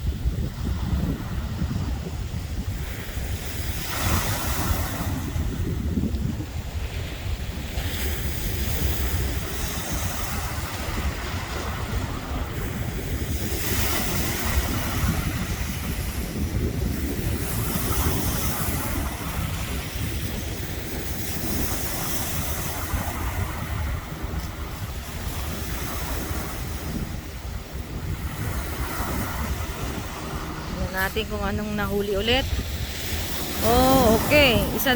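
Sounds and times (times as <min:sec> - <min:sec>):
sea waves: 0:00.0 - 0:34.9
wind buffeting microphone: 0:00.0 - 0:34.9.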